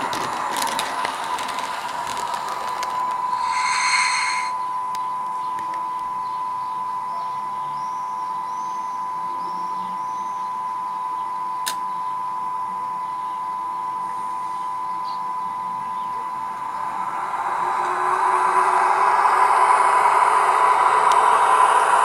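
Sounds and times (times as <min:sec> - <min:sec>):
steady electric whine: 0:00.0 - 0:22.0.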